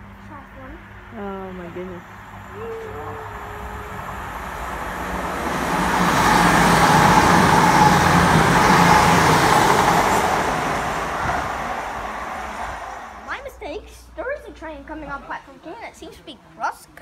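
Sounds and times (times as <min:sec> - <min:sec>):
diesel train passing at speed: 0:00.0 - 0:15.0.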